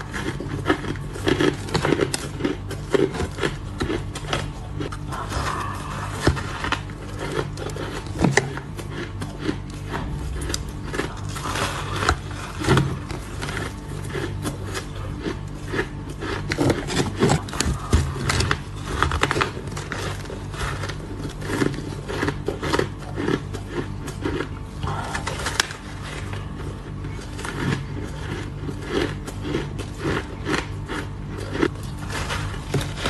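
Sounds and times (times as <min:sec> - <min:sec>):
ice being chewed: 0:00.0 - 0:33.0
steady low hum: 0:00.0 - 0:33.0.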